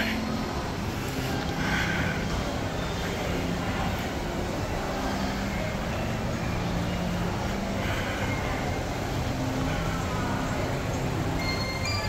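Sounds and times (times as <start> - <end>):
shopping mall background hum: 0.0 - 12.0.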